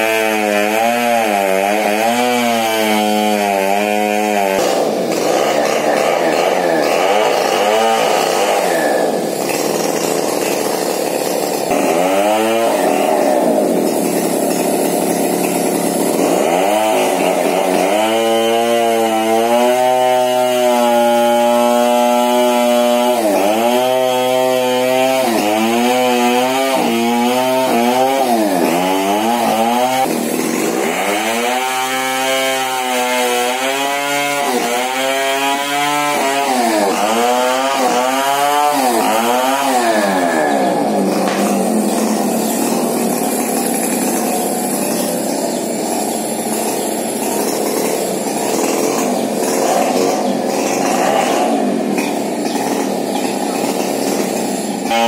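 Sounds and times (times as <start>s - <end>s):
chainsaw running hard: 0.0s - 55.0s.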